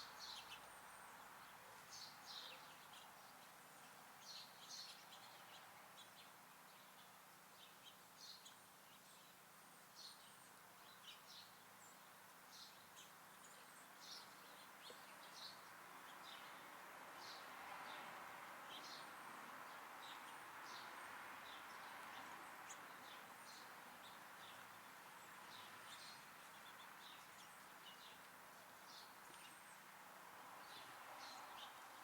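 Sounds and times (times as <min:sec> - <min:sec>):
faint background hiss: 0:00.0 - 0:32.0
songbirds chirping: 0:00.0 - 0:32.0.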